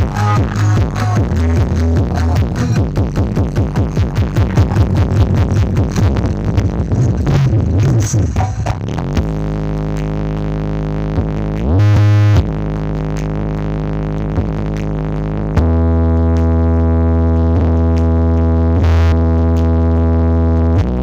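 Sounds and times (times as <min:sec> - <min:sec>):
electronic dance music with bass: 0:00.0 - 0:21.0.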